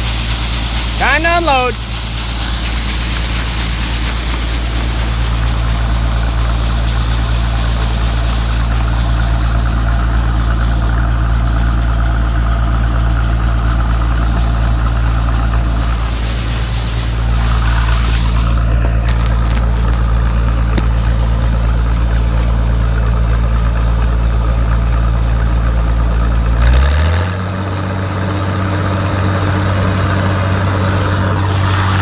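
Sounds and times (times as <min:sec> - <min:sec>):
combine diesel engine droning: 0:00.0 - 0:32.0.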